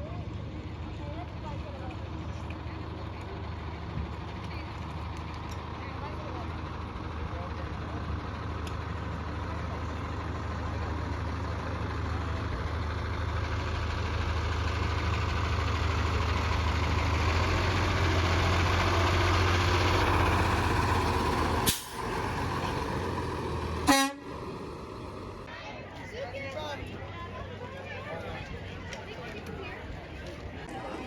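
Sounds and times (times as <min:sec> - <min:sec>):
truck diesel engine running: 0:00.0 - 0:25.6.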